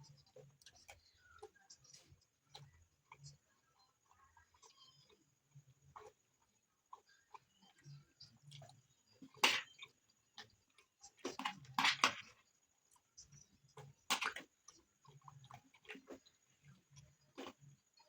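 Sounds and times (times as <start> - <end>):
chewing food: 0.0 - 18.0.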